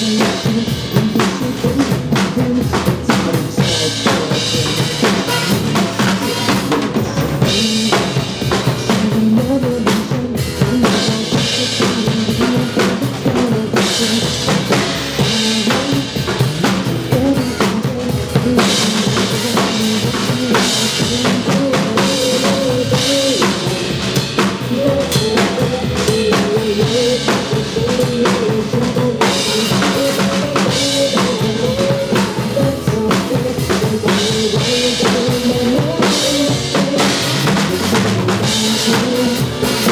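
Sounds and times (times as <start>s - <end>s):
drum kit playing: 0.0s - 39.9s
pop backing track: 0.0s - 39.9s.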